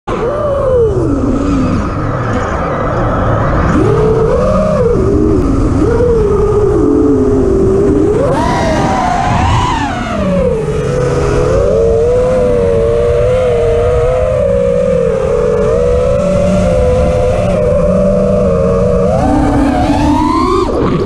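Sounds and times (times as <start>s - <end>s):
drone motors whining: 0.1s - 21.0s.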